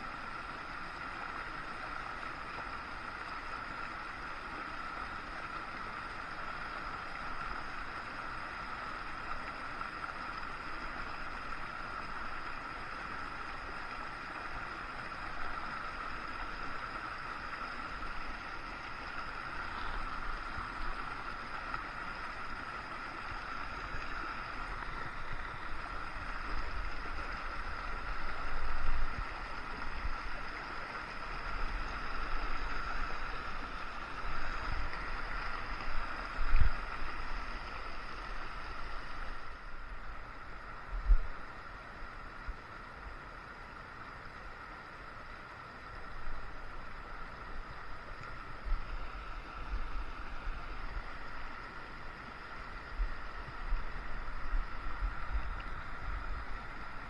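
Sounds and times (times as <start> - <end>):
creek rushing over stones: 0.0 - 57.0.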